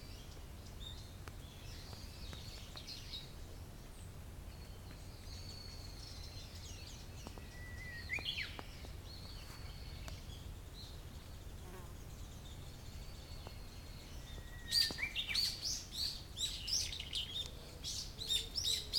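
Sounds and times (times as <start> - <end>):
bird singing: 0.0 - 18.9.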